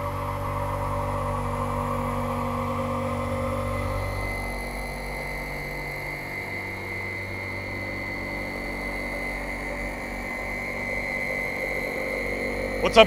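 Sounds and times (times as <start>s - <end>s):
high steady whine: 0.0s - 13.0s
machine drone with hum: 0.0s - 13.0s.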